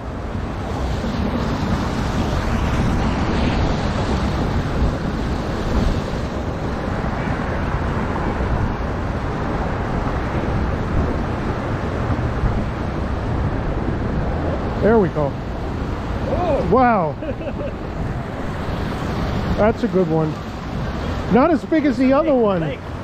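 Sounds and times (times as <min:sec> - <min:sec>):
wind buffeting microphone: 0:00.0 - 0:23.0
water rushing over spillway: 0:00.1 - 0:23.0.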